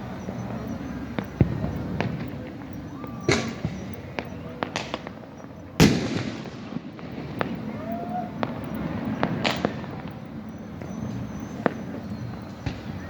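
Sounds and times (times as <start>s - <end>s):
firecrackers cracking and popping: 0.0s - 13.0s
fireworks bangs: 0.0s - 13.0s.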